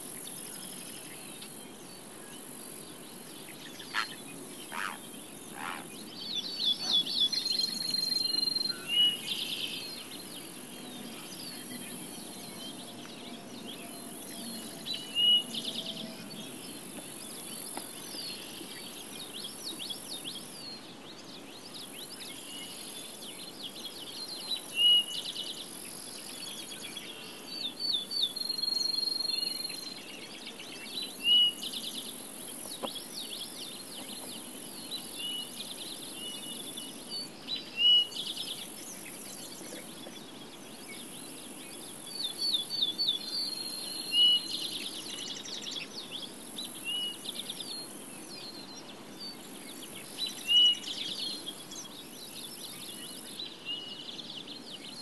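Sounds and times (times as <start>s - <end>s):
insect buzz: 0.0s - 48.7s
birds singing: 0.0s - 55.0s.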